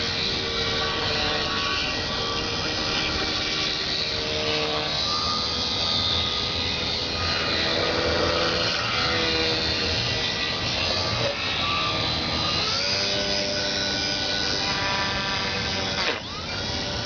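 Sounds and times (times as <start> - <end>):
small motor and propeller whining: 0.0 - 17.0.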